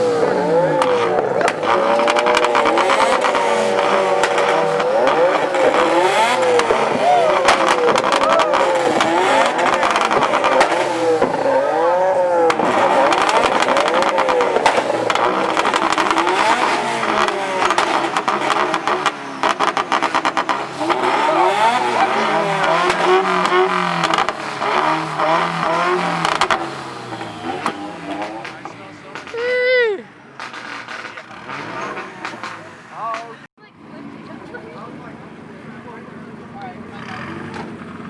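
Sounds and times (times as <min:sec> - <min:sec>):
exhaust crackling and popping: 0:00.0 - 0:33.5
car engines revving: 0:00.0 - 0:38.0.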